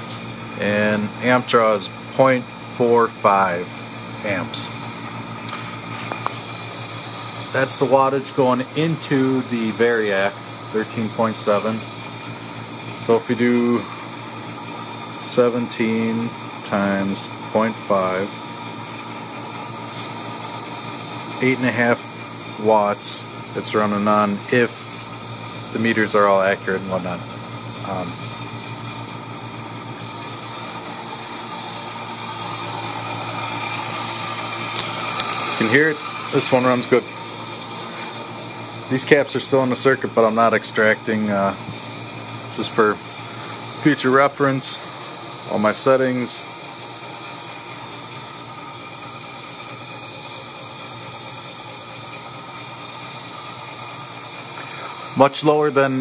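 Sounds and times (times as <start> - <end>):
electric motor humming: 0.0 - 56.0
even hiss: 5.4 - 18.4, 19.6 - 56.0.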